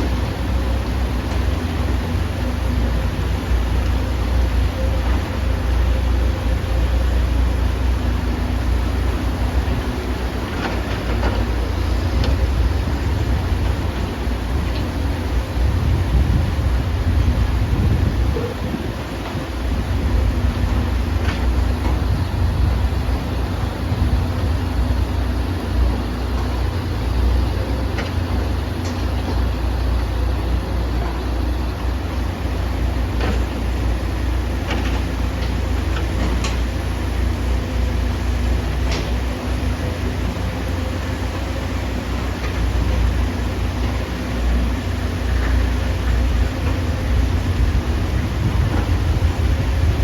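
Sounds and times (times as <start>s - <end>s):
excavator diesel engine rumbling: 0.0s - 50.0s.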